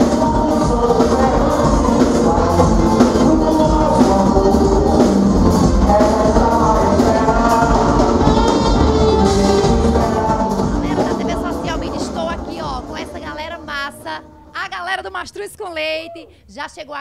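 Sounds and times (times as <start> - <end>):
band music with singing: 0.0 - 14.6.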